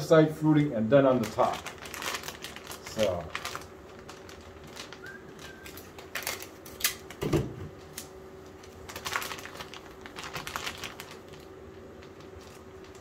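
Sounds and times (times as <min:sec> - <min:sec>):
plastic bag crinkling: 0:00.8 - 0:07.3, 0:07.9 - 0:13.0.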